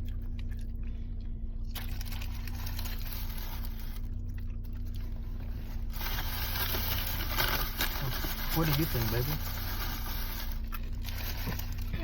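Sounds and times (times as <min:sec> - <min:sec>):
crunching chewing: 0:00.0 - 0:07.0, 0:08.7 - 0:12.0
car engine idling: 0:00.0 - 0:12.0.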